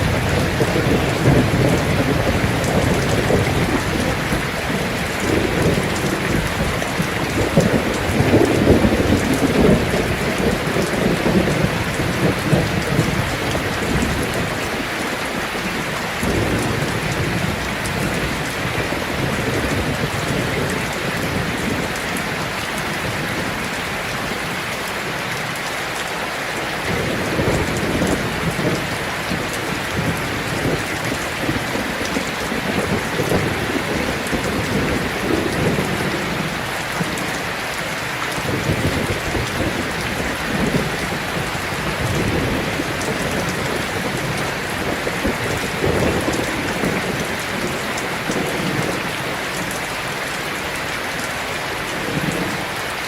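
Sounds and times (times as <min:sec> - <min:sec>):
low rolling thunder: 0:00.0 - 0:25.6, 0:26.8 - 0:50.2, 0:51.9 - 0:52.7
heavy rain on a tin roof: 0:00.0 - 0:53.0.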